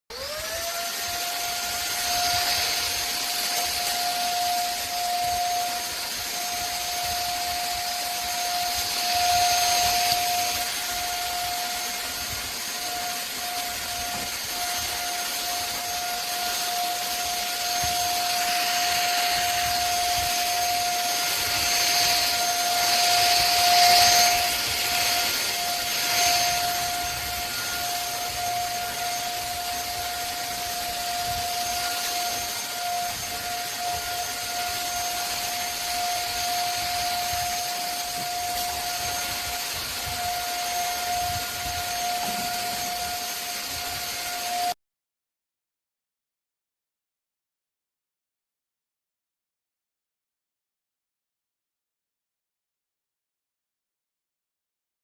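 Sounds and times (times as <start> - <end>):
rush of air: 0.1 - 44.7
vacuum cleaner motor whine: 0.1 - 44.8.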